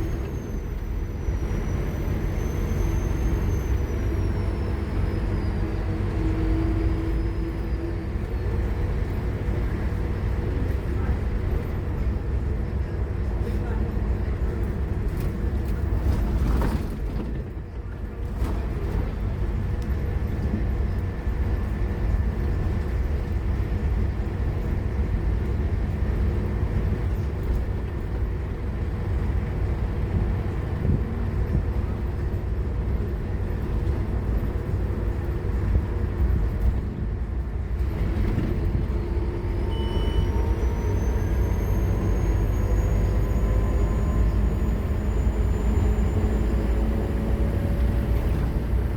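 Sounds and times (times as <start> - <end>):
bus engine rumbling: 0.0 - 48.9.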